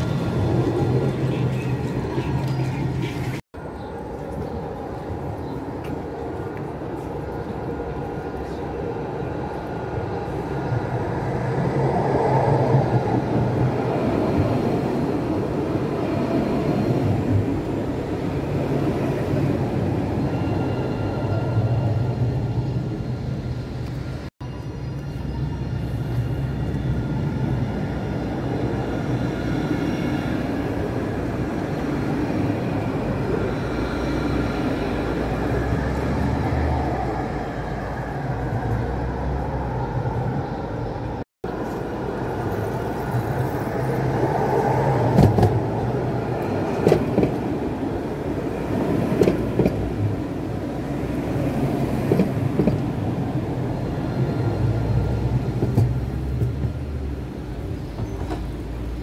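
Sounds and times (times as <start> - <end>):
tram rumbling: 0.0 - 59.0.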